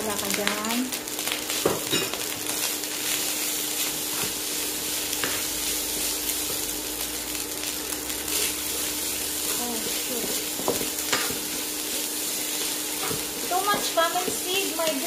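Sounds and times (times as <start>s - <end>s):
rice sizzling in a wok: 0.0s - 15.0s.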